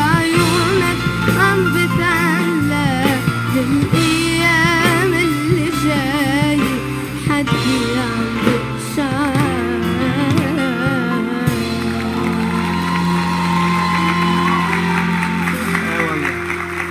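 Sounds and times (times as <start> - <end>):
instrumental accompaniment: 0.0 - 16.9.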